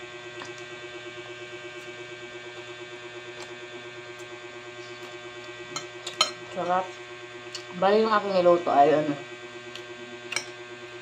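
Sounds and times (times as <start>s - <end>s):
buzzing electrical hum: 0.0s - 11.0s.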